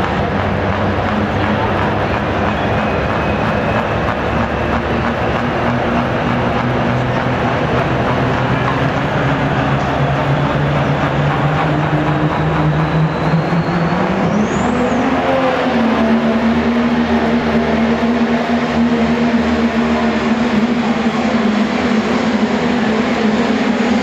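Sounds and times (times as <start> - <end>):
diesel truck engine under load: 0.0 - 24.0.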